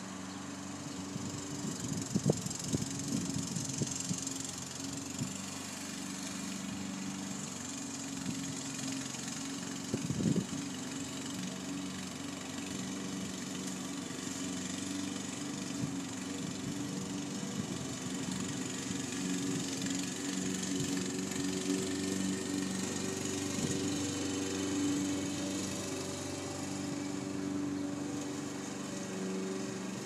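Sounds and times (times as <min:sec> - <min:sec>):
lawn mower engine running: 0:00.0 - 0:30.0.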